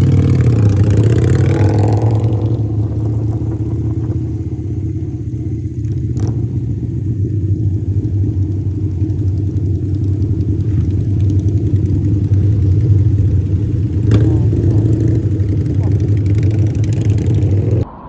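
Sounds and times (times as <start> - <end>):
motorcycle engine rumbling: 0.0 - 17.9.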